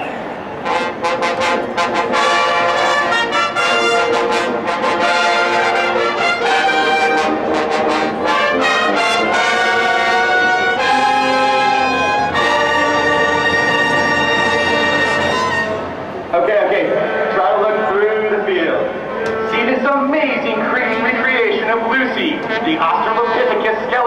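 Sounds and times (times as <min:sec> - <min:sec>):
brass marching band playing: 0:00.0 - 0:24.0.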